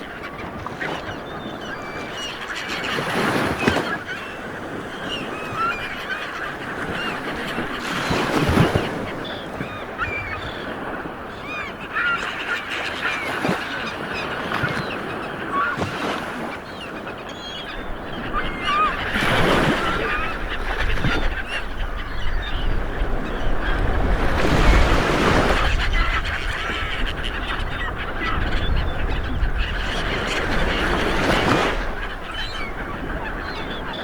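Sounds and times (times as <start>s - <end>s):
flock of birds calling: 0.0s - 34.0s.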